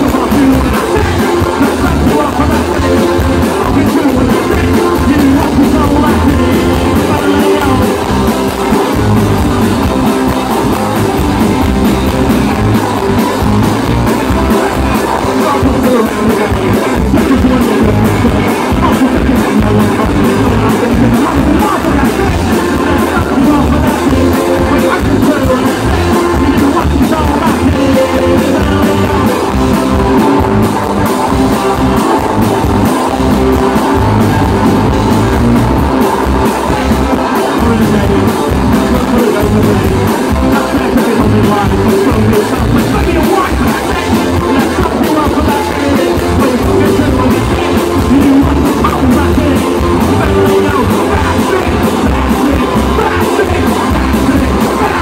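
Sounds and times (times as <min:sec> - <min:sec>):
person singing: 0:00.0 - 0:55.0
rock band playing live: 0:00.0 - 0:55.0.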